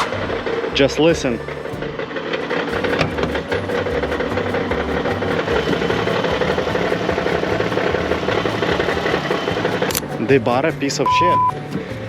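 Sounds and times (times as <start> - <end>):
rapid engine knock: 0.0 - 10.4
minivan engine idling: 0.0 - 12.0.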